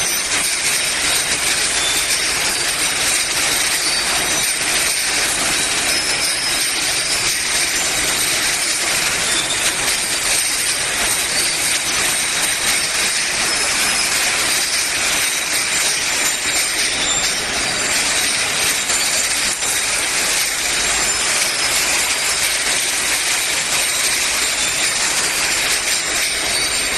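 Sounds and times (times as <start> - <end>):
glass jars clattering on conveyor: 0.0 - 26.9.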